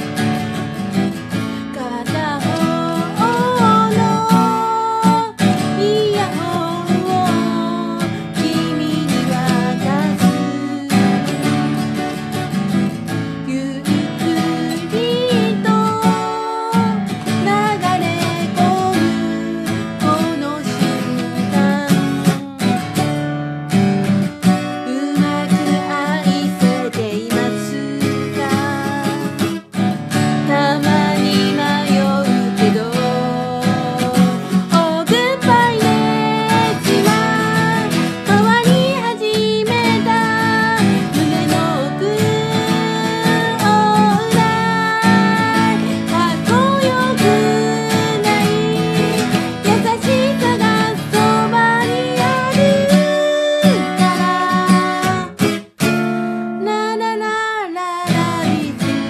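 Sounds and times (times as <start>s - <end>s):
woman singing pop ballad: 0.0s - 23.2s, 24.5s - 55.6s, 56.6s - 59.0s
acoustic guitar strumming chords: 0.0s - 56.7s, 58.0s - 59.0s.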